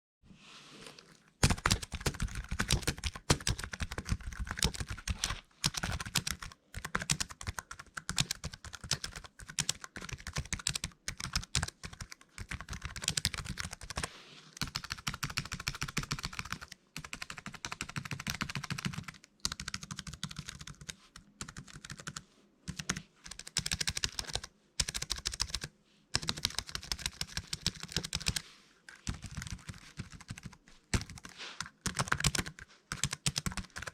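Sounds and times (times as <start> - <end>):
laptop keyboard typing: 1.4 - 33.9.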